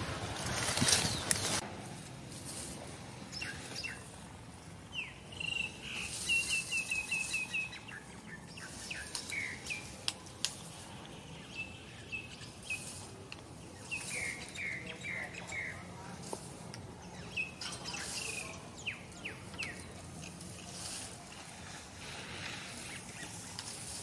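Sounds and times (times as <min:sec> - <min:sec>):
small birds chirping: 0:00.5 - 0:24.0.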